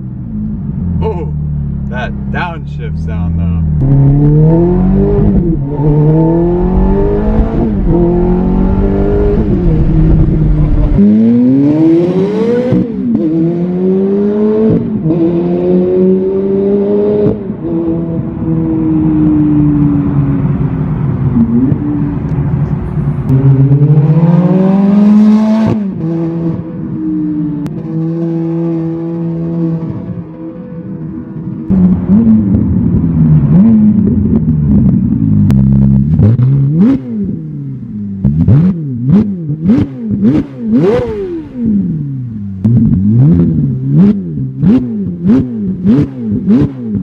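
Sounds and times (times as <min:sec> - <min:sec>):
sports car engine accelerating hard: 0:00.2 - 0:47.0.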